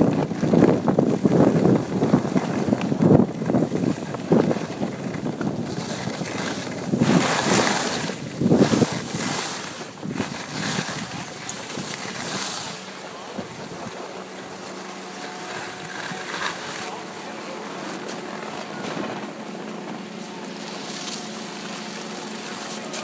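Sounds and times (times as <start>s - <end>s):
skis scraping over snow: 0.0s - 23.0s
wind on microphone: 0.0s - 23.0s.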